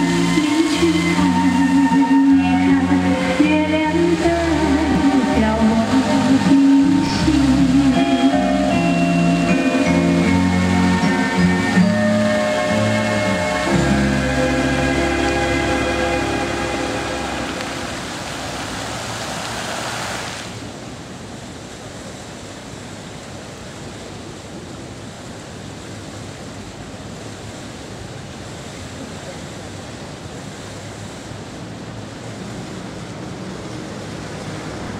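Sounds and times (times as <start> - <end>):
fountain water splashing: 0.0 - 34.9
outdoor background rush: 0.0 - 34.9.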